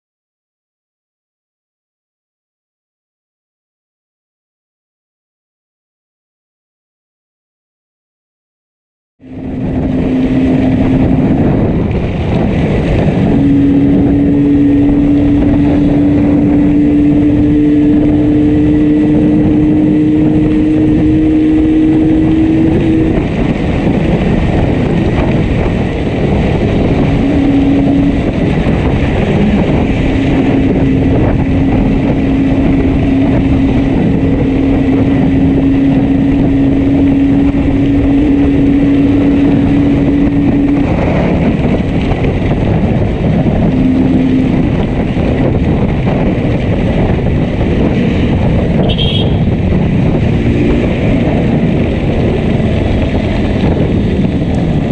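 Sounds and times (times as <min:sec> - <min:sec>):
misfiring motorcycle engine: 0:09.2 - 0:54.9
wind rush: 0:09.2 - 0:54.9.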